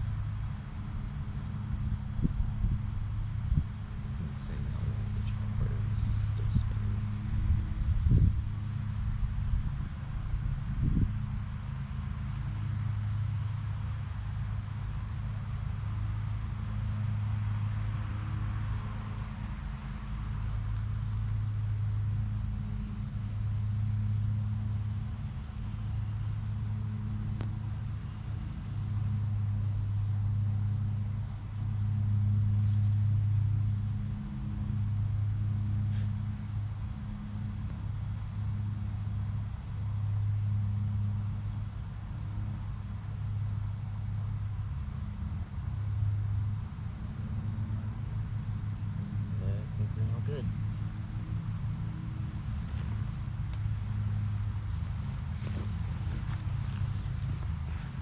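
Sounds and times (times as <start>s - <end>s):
insects trilling: 0.0s - 58.0s
low hum: 0.0s - 58.0s.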